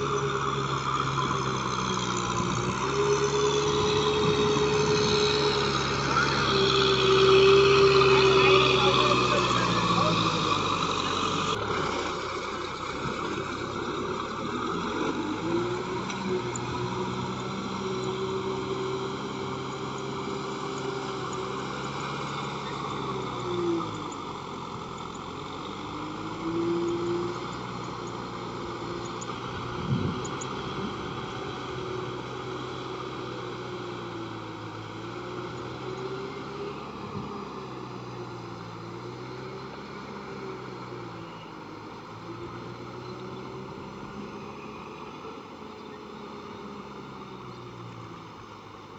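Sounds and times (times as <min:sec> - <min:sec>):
rotary tiller churning mud: 0:00.0 - 0:47.3
tractor diesel engine under load: 0:00.0 - 0:48.9.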